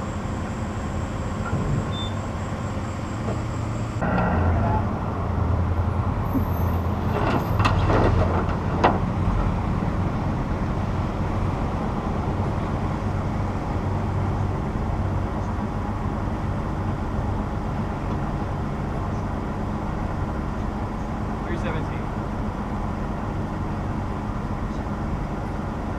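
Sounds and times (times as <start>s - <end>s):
truck engine rumbling: 0.0s - 25.9s.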